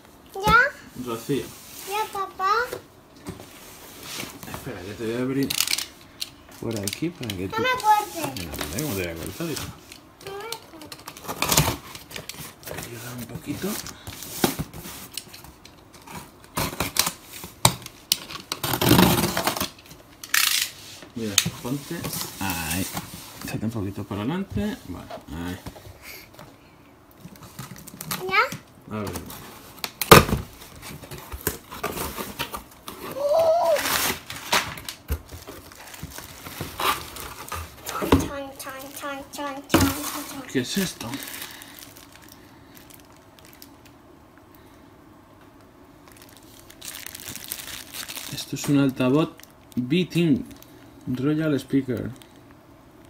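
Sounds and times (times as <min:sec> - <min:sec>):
plastic wrap rustle: 0:01.0 - 0:02.7, 0:03.4 - 0:25.8, 0:27.2 - 0:43.9, 0:46.0 - 0:52.6.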